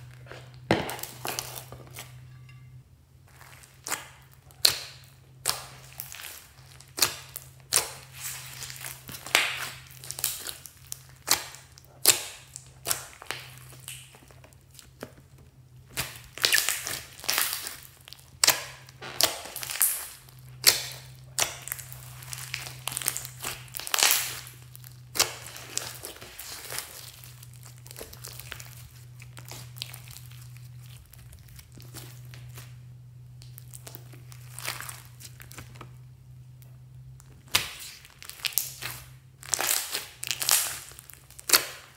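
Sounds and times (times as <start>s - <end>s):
slime squishing with pops: 0.0s - 2.6s, 3.3s - 41.9s.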